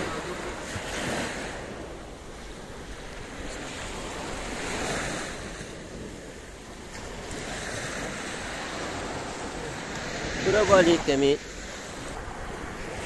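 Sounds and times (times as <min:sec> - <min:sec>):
sea surf washing onto beach: 0:00.0 - 0:13.0
wind buffeting microphone: 0:00.0 - 0:13.0.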